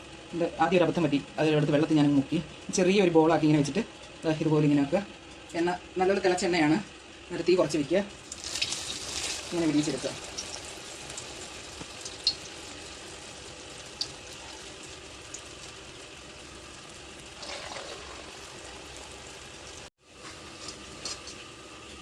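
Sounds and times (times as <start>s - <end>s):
fritters frying in hot oil: 0.0s - 22.0s.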